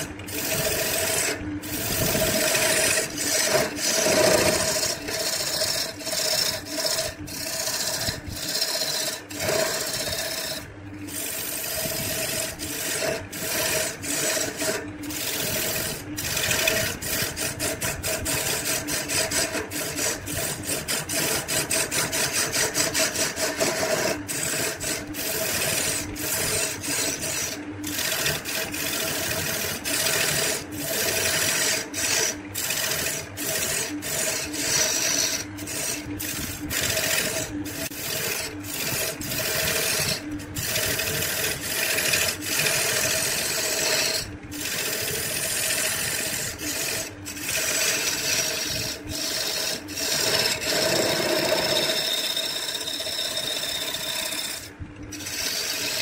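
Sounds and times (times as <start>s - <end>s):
chisel scraping wood on lathe: 0.0s - 56.0s
lathe motor hum: 0.0s - 56.0s.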